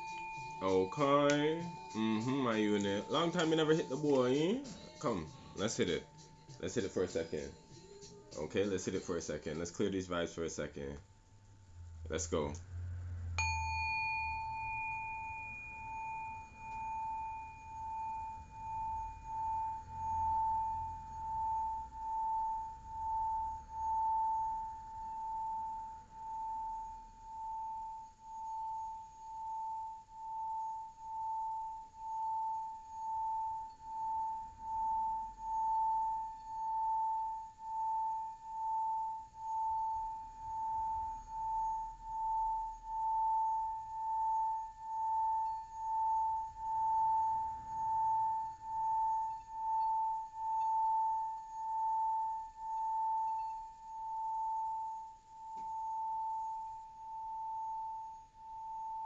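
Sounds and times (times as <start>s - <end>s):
singing bowl ringing tone: 0.0s - 10.4s, 11.6s - 59.0s.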